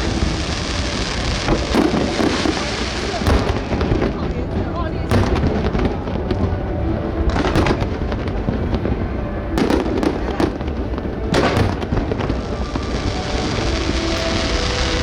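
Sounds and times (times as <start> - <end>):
fireworks crackling: 0.0 - 15.0
low rumble of fireworks: 0.0 - 15.0.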